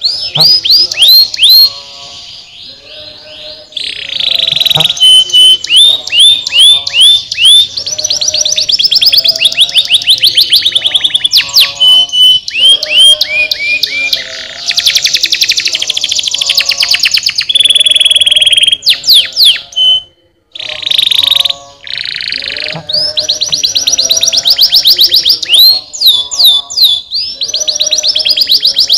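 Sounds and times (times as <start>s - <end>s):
canary singing trills: 0.0s - 28.9s.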